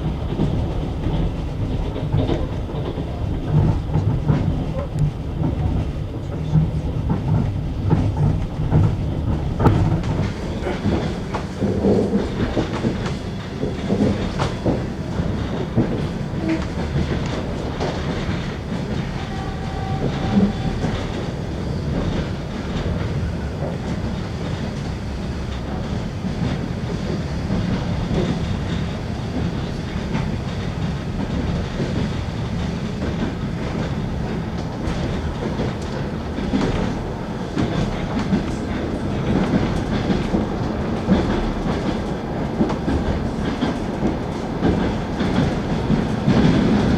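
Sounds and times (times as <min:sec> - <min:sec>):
train wheels clickety-clack: 0:00.0 - 0:46.9.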